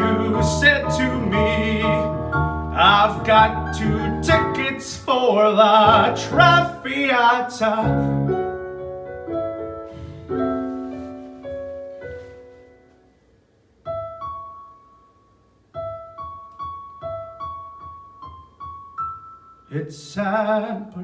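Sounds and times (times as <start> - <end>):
solo piano: 0.0 - 21.0.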